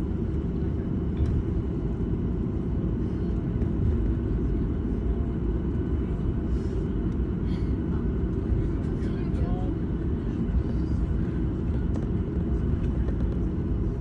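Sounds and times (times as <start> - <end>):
jet cabin engine rumble: 0.0 - 14.0.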